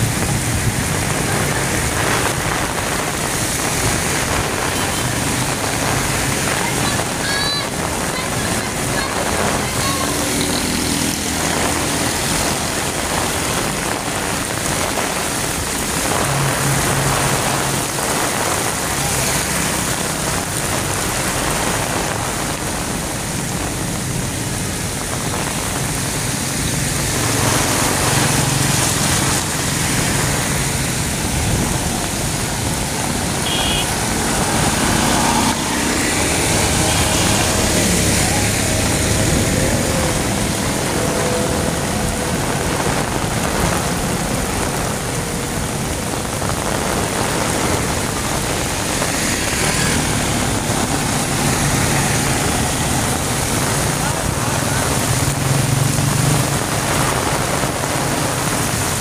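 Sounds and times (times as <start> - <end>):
heavy rain on a street: 0.0 - 59.0
passing motorbikes and vehicles: 0.0 - 59.0.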